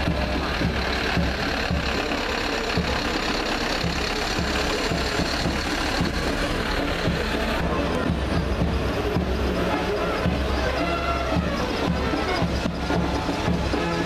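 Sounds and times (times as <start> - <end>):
fire truck diesel engine passing: 0.0 - 14.0.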